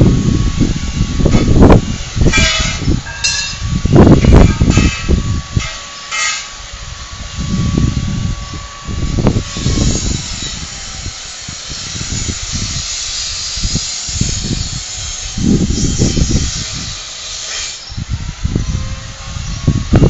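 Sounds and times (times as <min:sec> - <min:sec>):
steady hiss: 0:00.0 - 0:20.0
wind buffeting a microphone: 0:00.0 - 0:20.0.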